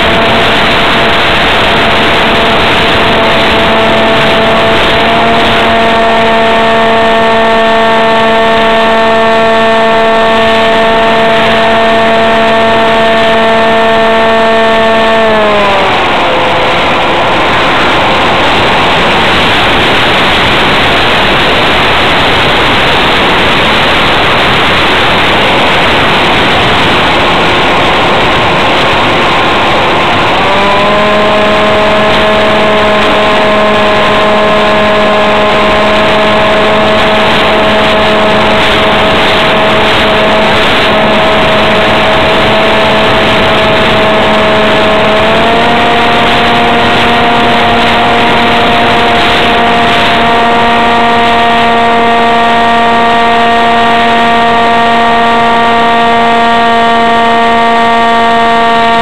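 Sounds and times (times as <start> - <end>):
wind rush: 0.0 - 54.2
electric motor and propeller whining: 0.0 - 59.0.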